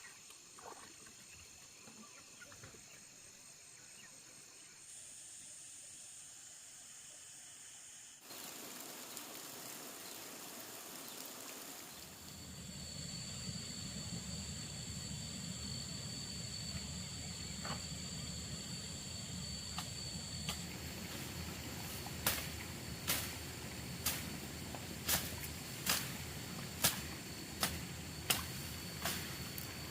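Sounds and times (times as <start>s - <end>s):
continuous hiss: 0.0s - 29.9s
insects singing: 0.0s - 29.9s.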